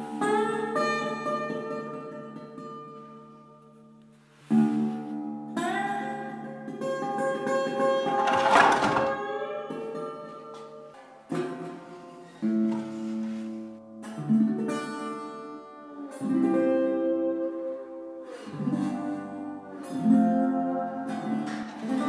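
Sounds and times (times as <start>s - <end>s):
acoustic guitar chords: 0.0s - 22.0s.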